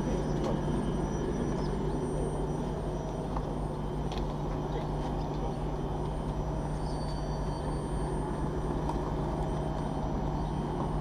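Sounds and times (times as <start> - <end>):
constant low hum: 0.0 - 11.0
passenger train rumbling: 0.0 - 11.0.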